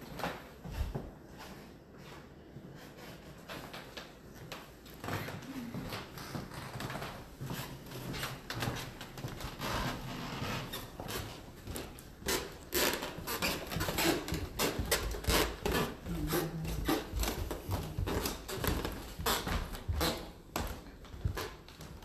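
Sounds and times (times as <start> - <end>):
footsteps on wooden stairs: 4.4 - 22.0.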